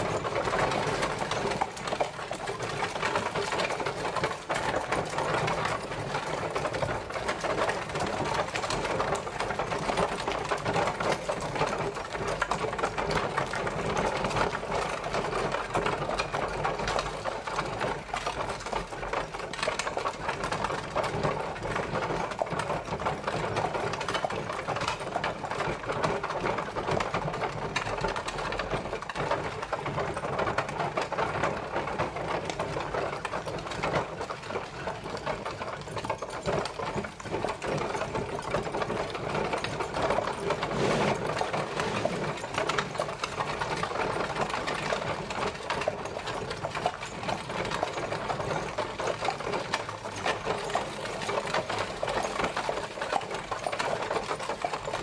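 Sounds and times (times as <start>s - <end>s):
horse-drawn carriage clattering: 0.0s - 55.0s.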